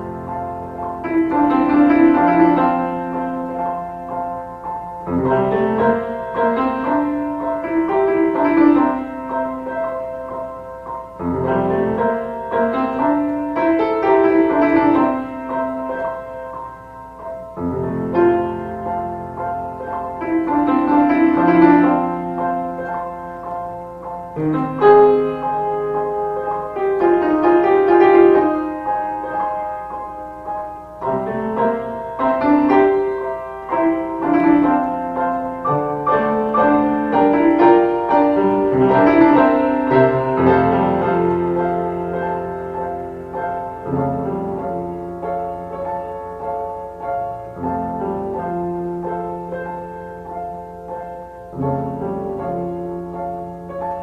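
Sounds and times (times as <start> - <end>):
slow piano piece: 0.0 - 54.0.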